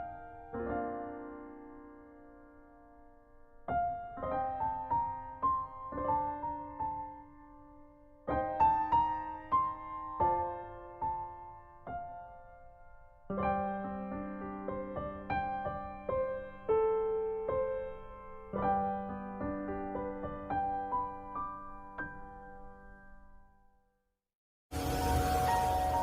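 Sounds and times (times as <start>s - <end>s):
gentle piano music: 0.0s - 24.0s, 24.8s - 26.0s.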